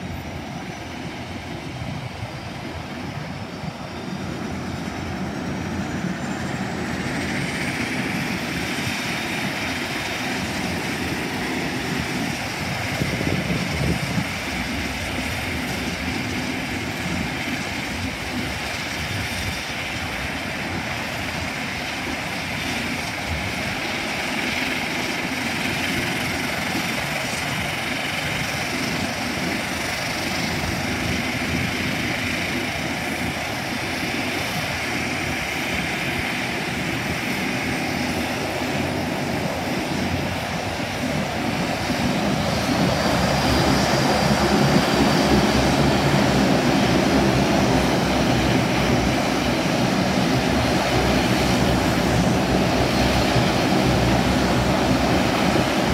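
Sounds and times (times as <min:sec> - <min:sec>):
turboprop engines running: 0:00.0 - 0:55.9.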